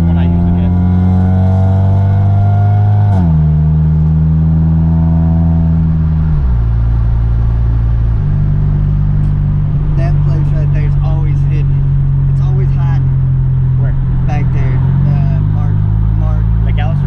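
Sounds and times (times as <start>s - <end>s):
car engine pulling through gears: 0.0s - 17.0s.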